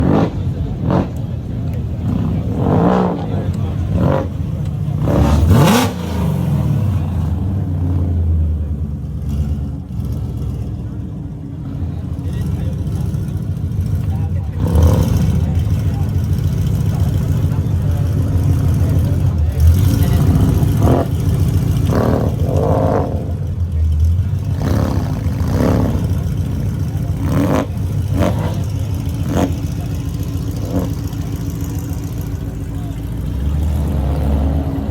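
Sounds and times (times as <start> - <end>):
car exhaust low rumble: 0.0 - 34.9
engine throttle revs: 0.0 - 34.9.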